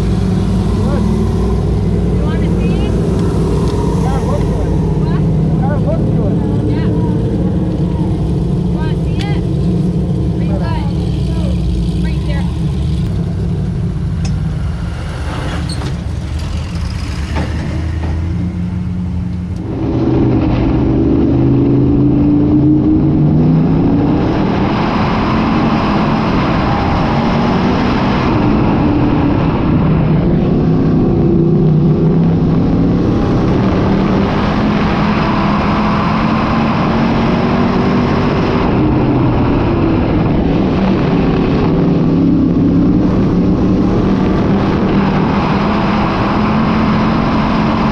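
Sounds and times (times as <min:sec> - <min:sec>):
race car engines revving: 0:00.0 - 0:47.9.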